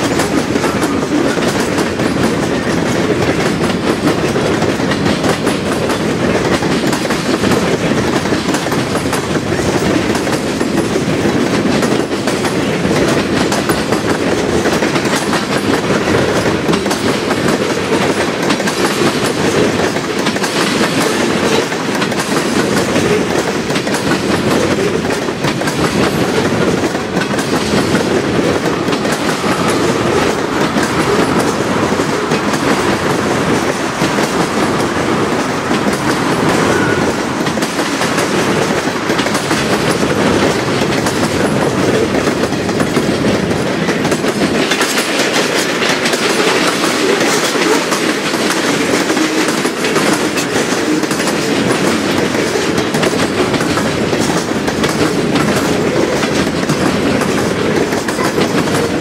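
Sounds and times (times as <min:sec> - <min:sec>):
train wheels clattering over joints: 0:00.0 - 0:59.0.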